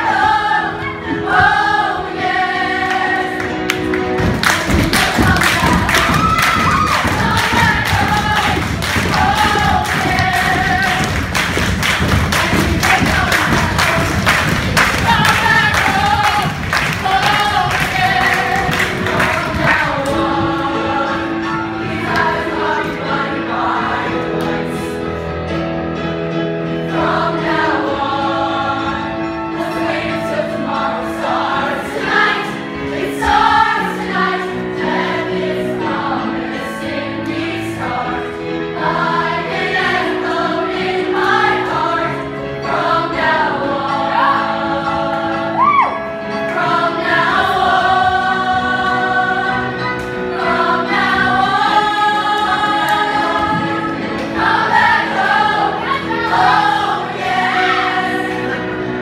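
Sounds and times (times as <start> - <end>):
group singing show tune: 0.0 - 25.2, 26.8 - 59.0.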